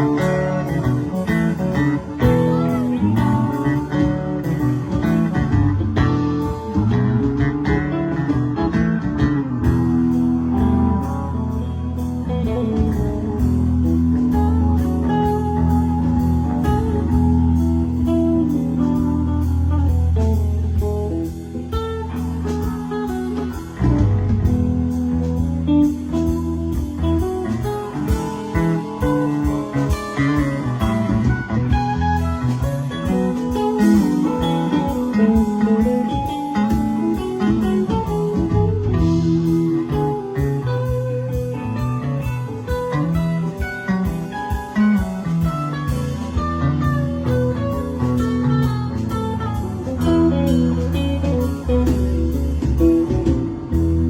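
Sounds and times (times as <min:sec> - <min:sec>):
bass: 0:00.0 - 0:54.0
drums: 0:00.0 - 0:54.0
guitar lines: 0:00.0 - 0:54.0.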